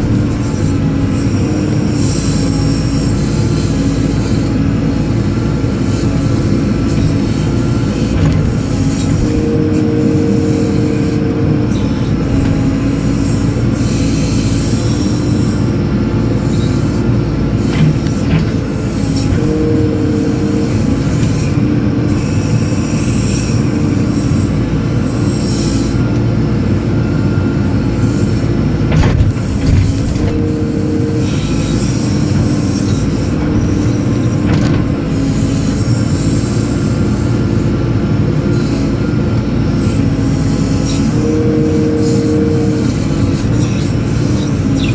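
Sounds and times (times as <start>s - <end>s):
backhoe diesel engine under load: 0.0s - 44.9s.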